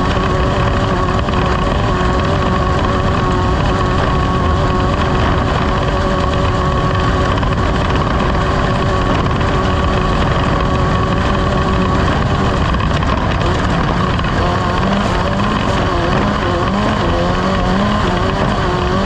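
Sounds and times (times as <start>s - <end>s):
rushing wind and terrain noise: 0.0s - 19.0s
vehicle engine running hard: 0.0s - 19.0s.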